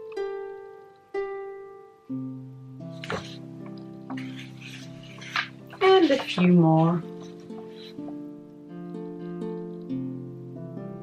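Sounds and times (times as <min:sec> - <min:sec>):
harp music: 0:00.0 - 0:11.0.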